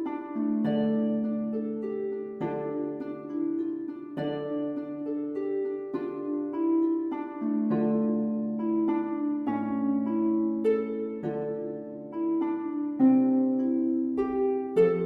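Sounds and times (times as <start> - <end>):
plucked harp music: 0.0 - 15.0.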